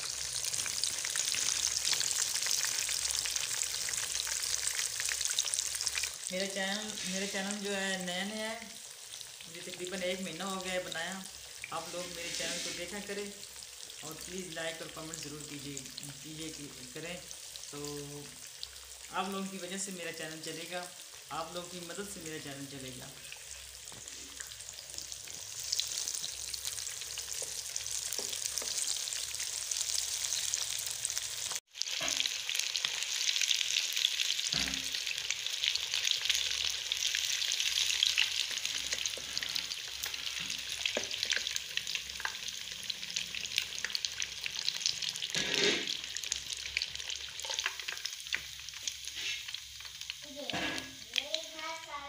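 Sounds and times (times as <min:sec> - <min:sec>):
fish deep-frying in oil: 0:00.0 - 0:52.0.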